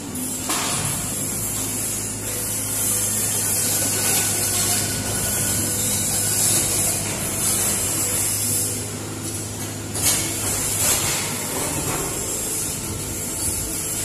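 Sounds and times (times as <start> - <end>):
excavator engine hum: 0.0 - 14.0.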